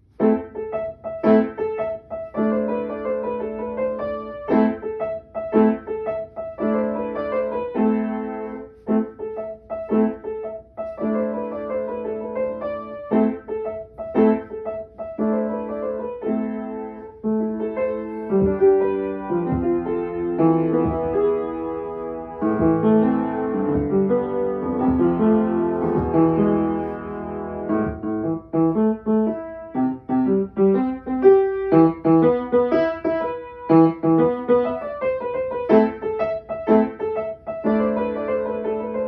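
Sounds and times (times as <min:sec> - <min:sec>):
solo piano piece: 0:00.0 - 0:39.0.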